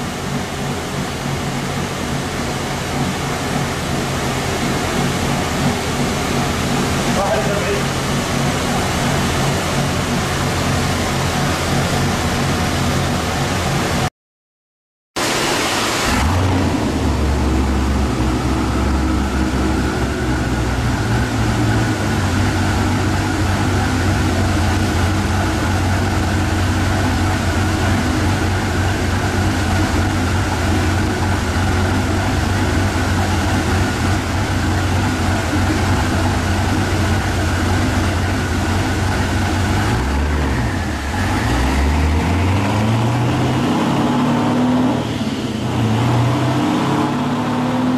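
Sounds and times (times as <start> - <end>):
car engine running hard: 0.0 - 14.1, 15.2 - 47.9.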